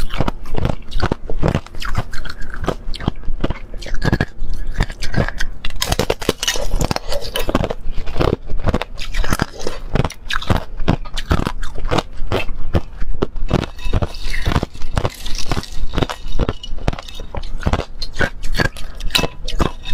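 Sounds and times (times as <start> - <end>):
ice being chewed crunching: 0.0 - 19.9.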